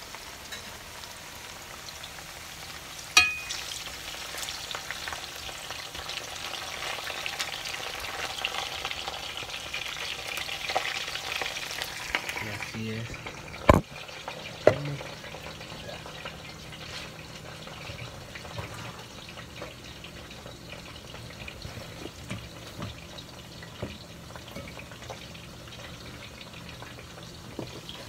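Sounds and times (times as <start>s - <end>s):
banana slices sizzling in oil: 0.0s - 28.0s.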